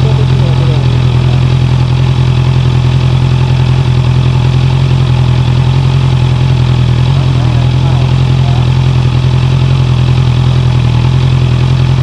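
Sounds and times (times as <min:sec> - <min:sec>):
engine clattering noise: 0:00.0 - 0:12.0
motorcycle engine running: 0:00.0 - 0:12.0.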